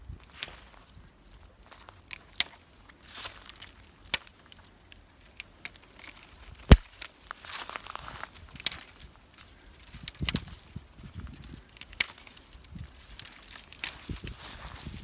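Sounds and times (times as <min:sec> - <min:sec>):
rustling and crinkling handling: 0:00.0 - 0:15.0.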